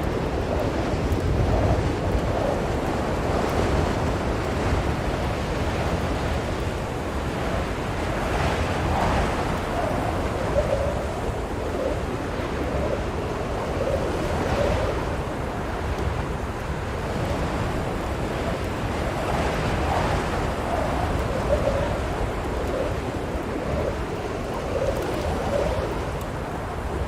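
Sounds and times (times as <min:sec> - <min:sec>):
blizzard wind howling: 0:00.0 - 0:27.0.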